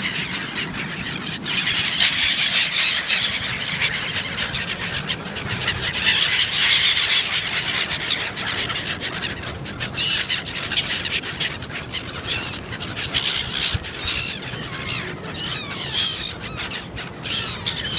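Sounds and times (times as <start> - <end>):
gulls squawking: 0.0 - 17.9.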